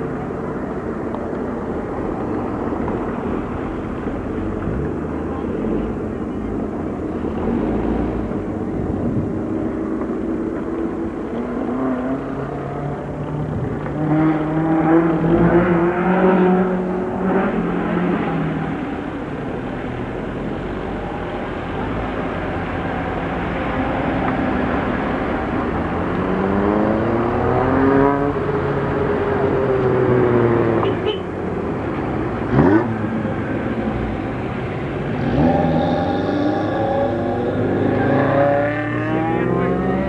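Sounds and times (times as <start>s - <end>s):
race car engine accelerating: 0.0s - 40.0s.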